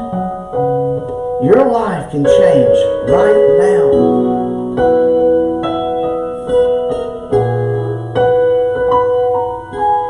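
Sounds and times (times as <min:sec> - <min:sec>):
keyboard playing slow chords: 0:00.0 - 0:10.0.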